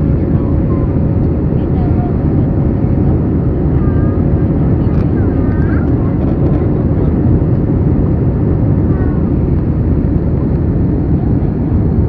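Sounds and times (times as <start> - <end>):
jet engine and airflow rush: 0.0 - 12.0.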